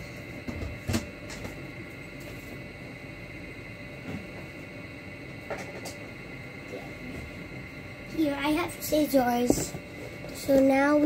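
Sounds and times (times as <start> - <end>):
room hiss and hum: 0.0 - 11.0.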